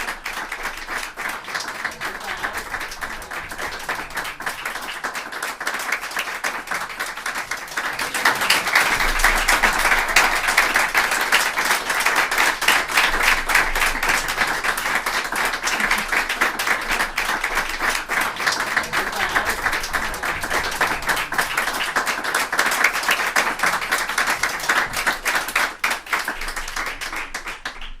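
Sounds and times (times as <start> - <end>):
crowd applauding: 0.0 - 28.0.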